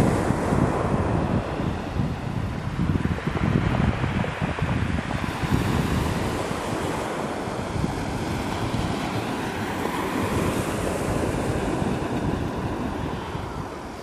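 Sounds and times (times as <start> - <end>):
waves washing up pebble beach: 0.0 - 14.0
wind buffeting microphone: 0.0 - 14.0.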